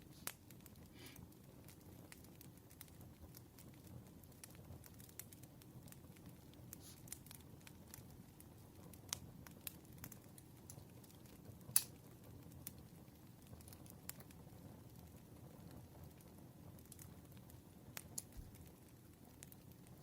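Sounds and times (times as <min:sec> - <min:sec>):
campfire crackling: 0:00.0 - 0:20.0
fire pops and snaps: 0:00.1 - 0:20.0.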